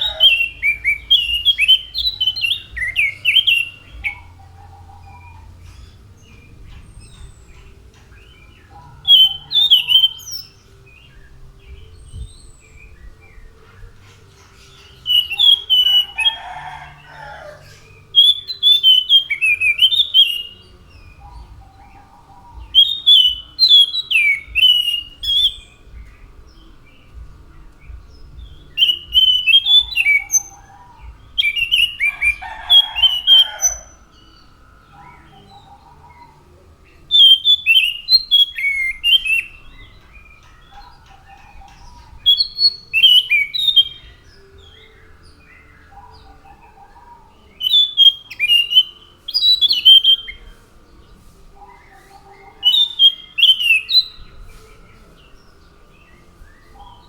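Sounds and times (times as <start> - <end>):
thrush singing whistled notes: 0.0 - 50.6, 51.8 - 57.0.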